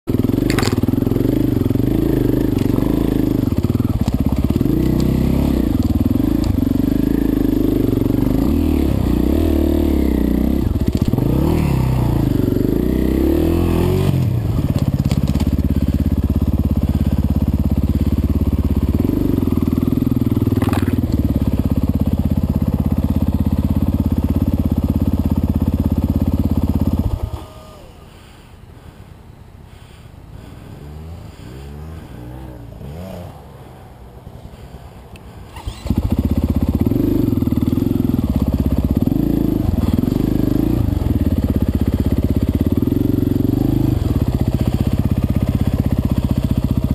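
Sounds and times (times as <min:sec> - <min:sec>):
motorcycle engine revving: 0:00.1 - 0:27.9, 0:29.7 - 0:46.9.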